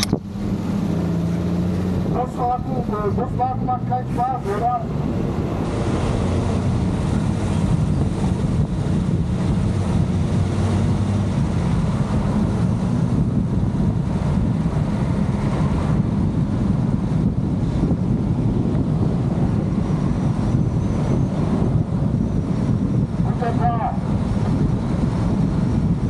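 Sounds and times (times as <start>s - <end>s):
car engine and tyres rumbling: 0.0s - 26.0s
wind buffeting microphone: 0.0s - 26.0s.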